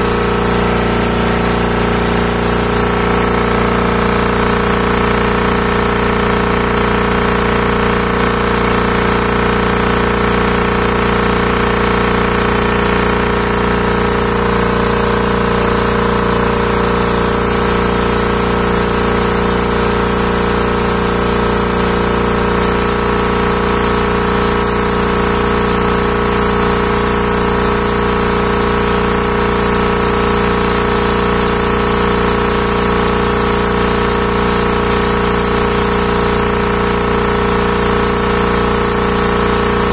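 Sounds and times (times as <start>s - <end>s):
air compressor clattering: 0.0s - 39.9s.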